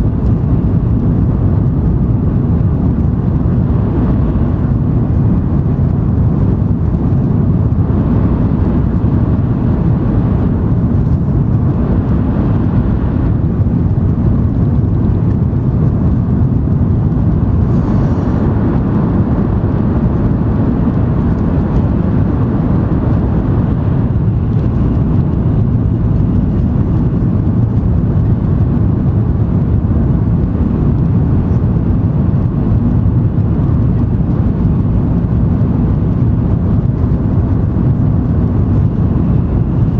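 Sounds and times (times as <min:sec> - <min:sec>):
train interior rumble: 0:00.0 - 0:39.9.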